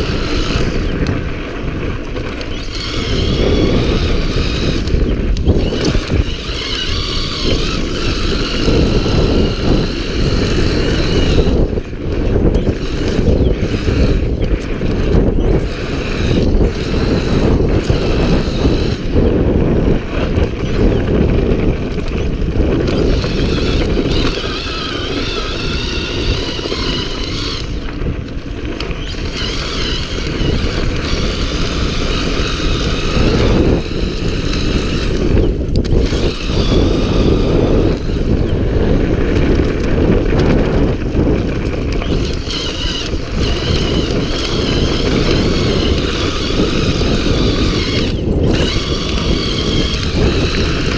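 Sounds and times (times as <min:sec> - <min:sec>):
faint high motor whine: 0:00.0 - 0:19.4, 0:22.0 - 0:38.9, 0:41.6 - 0:50.9
tyres rumbling over dirt: 0:00.0 - 0:50.9
wind buffeting microphone: 0:00.0 - 0:50.9.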